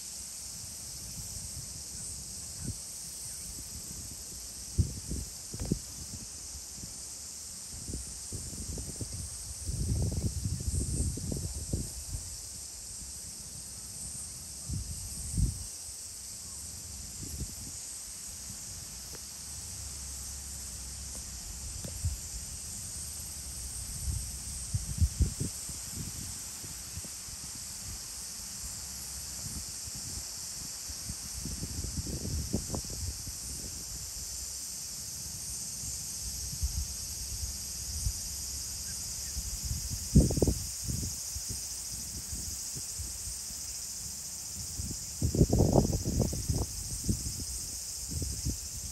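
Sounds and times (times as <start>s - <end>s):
high-pitched insect hiss: 0.0s - 48.9s.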